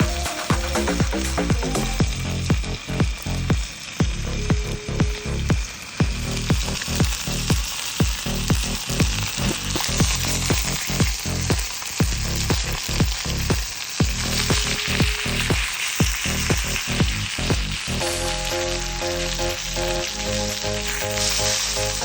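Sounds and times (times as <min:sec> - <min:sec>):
continuous sizzling hiss: 0:00.0 - 0:22.0
music with heavy bass: 0:00.0 - 0:22.0.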